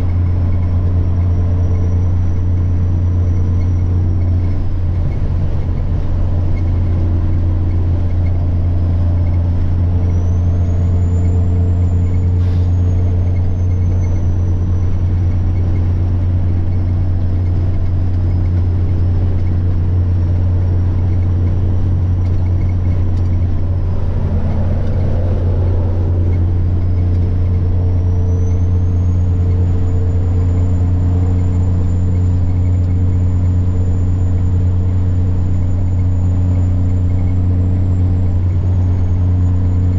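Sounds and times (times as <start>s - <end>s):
truck diesel engine running: 0.0s - 39.9s
turbocharger whine: 0.0s - 39.9s.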